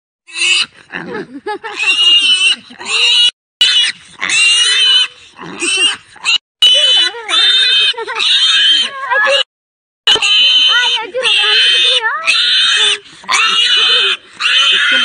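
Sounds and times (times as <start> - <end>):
piglet squealing: 0.3 - 0.7, 1.7 - 9.5, 10.1 - 15.0.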